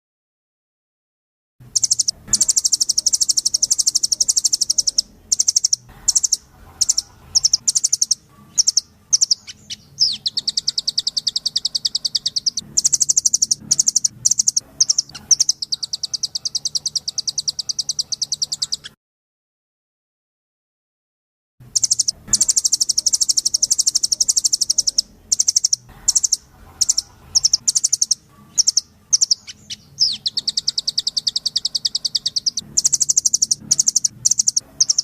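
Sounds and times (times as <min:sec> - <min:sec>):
songbird trills and chirps: 0:01.7 - 0:19.0, 0:21.7 - 0:35.0.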